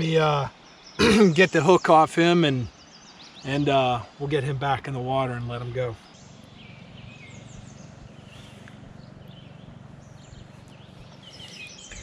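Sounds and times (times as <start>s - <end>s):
small birds chirping faintly: 0.0s - 12.0s.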